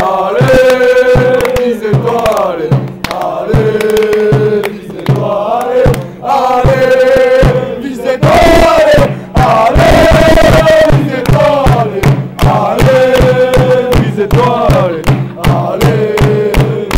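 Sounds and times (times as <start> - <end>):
crowd chanting in unison: 0.0 - 16.9
rhythmic hand claps: 0.0 - 16.9.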